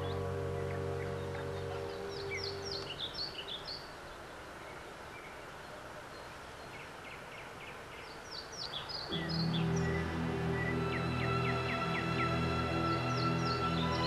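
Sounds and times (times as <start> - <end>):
small birds chirping: 0.0 - 14.0
steady hiss: 0.0 - 14.0.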